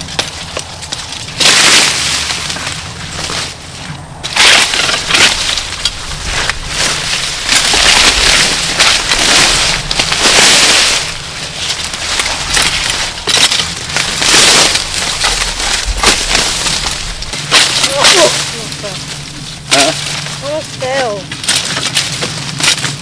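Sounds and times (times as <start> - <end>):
dry leaves crackling and tearing: 0.0 - 23.0.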